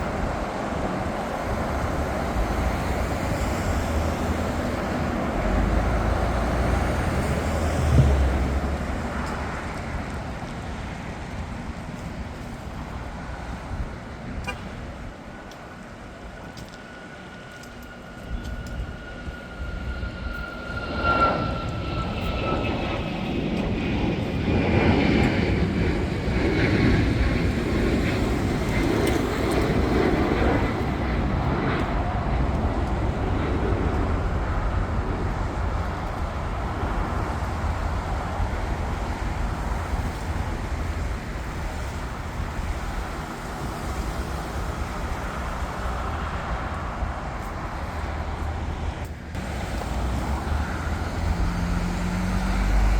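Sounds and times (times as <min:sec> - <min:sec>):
jet engine rumble: 0:00.0 - 0:52.9
jet engine whine: 0:00.0 - 0:52.9.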